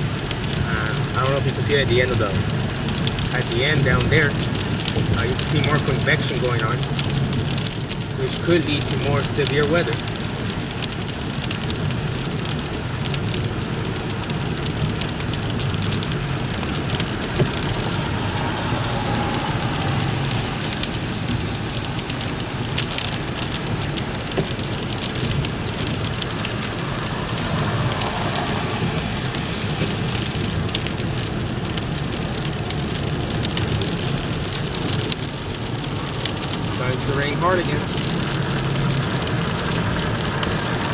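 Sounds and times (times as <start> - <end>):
rain ticking on a car: 0.0 - 40.9
road and engine hum: 0.0 - 40.9.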